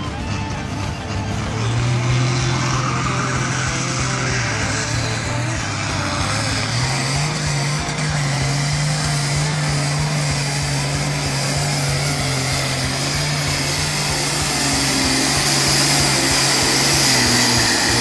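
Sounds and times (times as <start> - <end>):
tractor engine running hard: 0.0 - 18.0.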